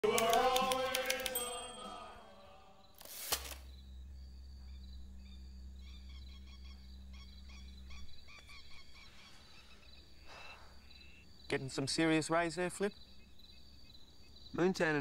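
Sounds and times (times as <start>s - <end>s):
low steady hum: 0.0s - 14.7s
insects chirping: 0.0s - 15.0s.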